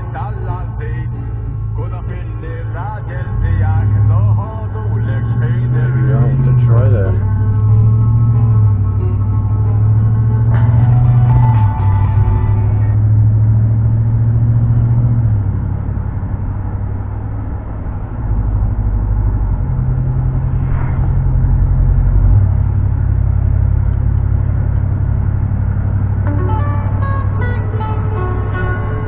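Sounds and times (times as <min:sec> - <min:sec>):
truck engine and tyre drone: 0:00.0 - 0:29.0.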